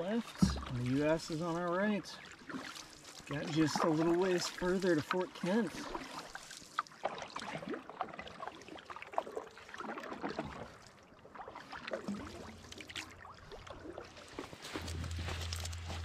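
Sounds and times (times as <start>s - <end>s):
paddle strokes in water: 0.0s - 16.0s
water splashing and dripping: 0.0s - 16.0s.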